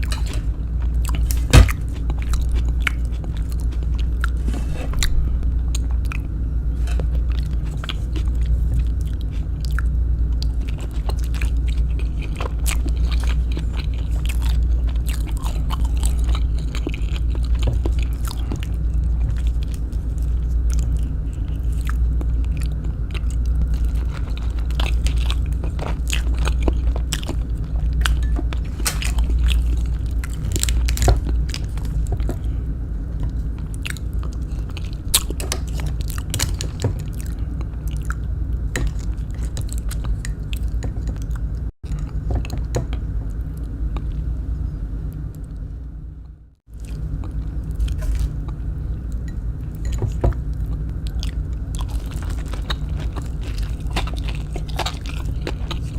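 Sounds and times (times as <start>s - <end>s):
chewing and crunching: 0.0s - 45.8s, 46.6s - 55.9s
steady low hum: 0.0s - 55.9s.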